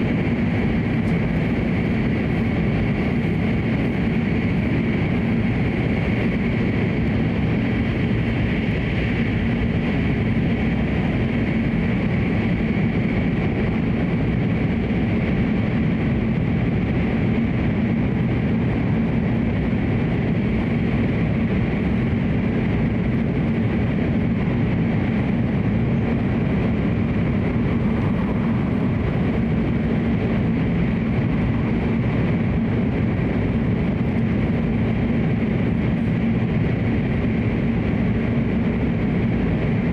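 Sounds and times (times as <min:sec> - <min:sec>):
train running noise from cabin: 0:00.0 - 0:39.9.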